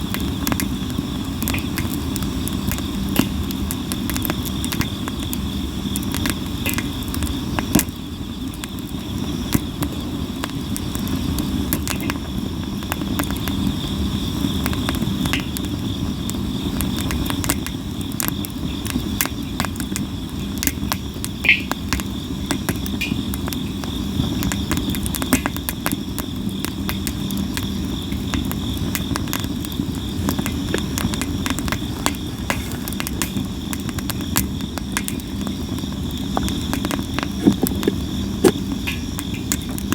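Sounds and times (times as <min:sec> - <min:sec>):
campfire crackling: 0:00.0 - 0:39.9
insects trilling: 0:00.0 - 0:39.9
wood popping in fire: 0:00.0 - 0:39.9.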